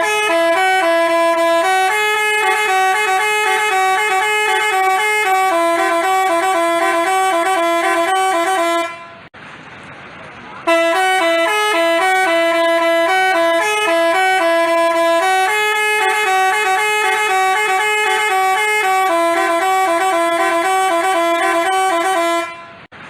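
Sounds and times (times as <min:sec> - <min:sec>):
musical bus horn melody: 0:00.0 - 0:09.3, 0:10.6 - 0:22.9.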